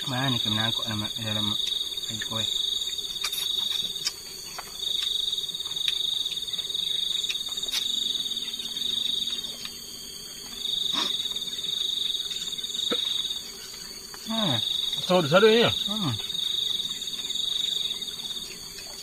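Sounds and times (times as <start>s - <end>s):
cricket trilling: 0.0s - 19.0s.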